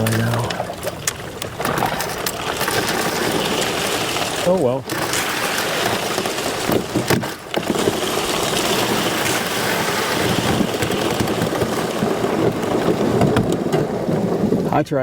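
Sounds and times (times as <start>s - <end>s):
ice crunching against canoe hull: 0.0s - 14.9s.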